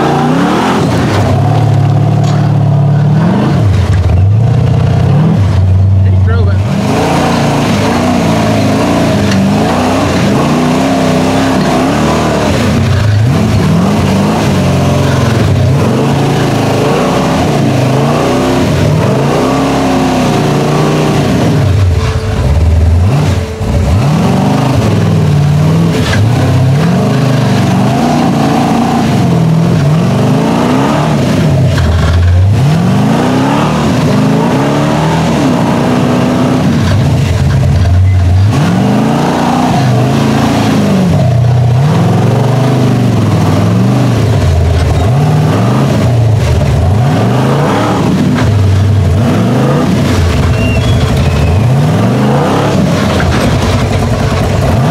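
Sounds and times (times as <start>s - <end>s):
truck engine revving under load: 0.0s - 54.9s.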